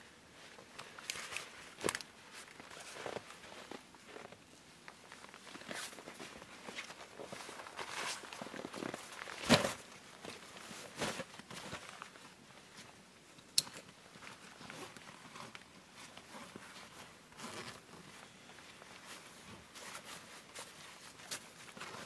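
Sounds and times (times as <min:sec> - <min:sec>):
backpack and clothing rustling: 0:00.3 - 0:12.9, 0:14.2 - 0:22.0.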